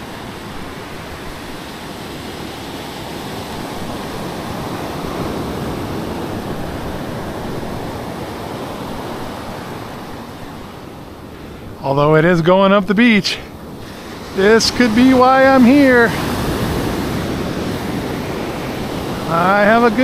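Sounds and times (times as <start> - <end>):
ocean surf on beach: 0.0 - 20.0.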